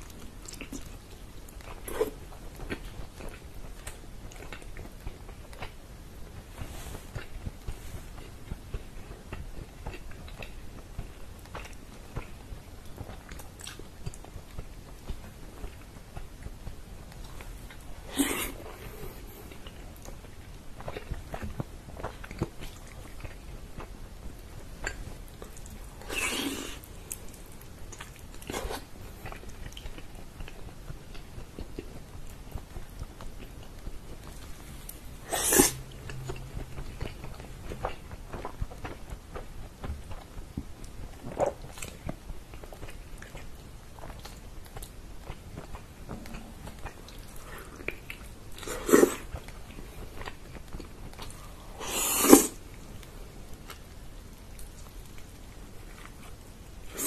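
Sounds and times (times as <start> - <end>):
person chewing with wet mouth sounds: 0.0 - 57.0.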